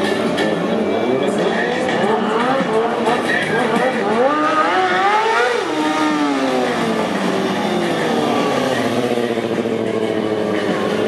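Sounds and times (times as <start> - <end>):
motorcycle engine revving: 1.0 - 11.0.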